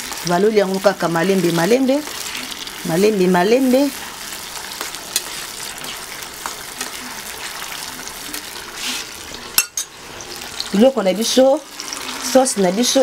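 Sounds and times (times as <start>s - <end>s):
sauce sizzling and bubbling in pot: 0.0s - 13.0s.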